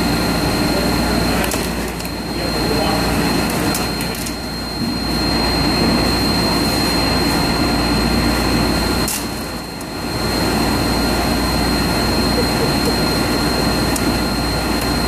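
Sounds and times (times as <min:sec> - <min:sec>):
high whine: 0:00.0 - 0:15.0
machining center cutting: 0:00.0 - 0:15.0.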